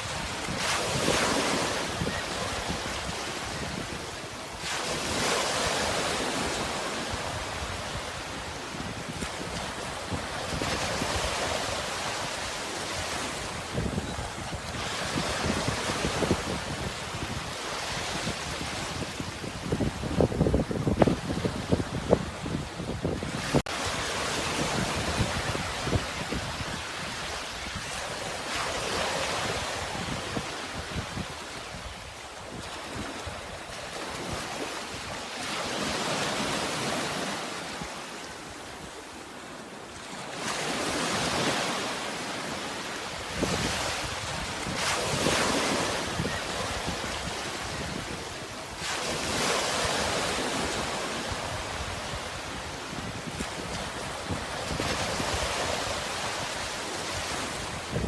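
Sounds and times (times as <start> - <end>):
wind rumble on microphone: 0.0 - 35.2, 43.2 - 58.0
sea waves breaking: 0.0 - 58.0.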